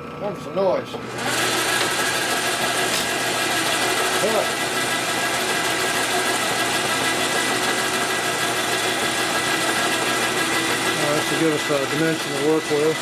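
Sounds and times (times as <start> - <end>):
metal lathe running: 1.0 - 13.0.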